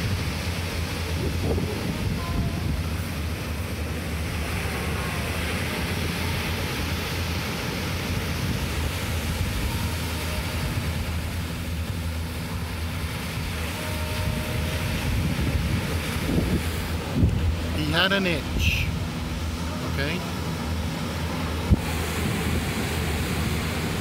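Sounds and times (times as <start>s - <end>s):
surf breaking on beach: 0.0s - 24.0s
wind rumble on microphone: 0.0s - 24.0s.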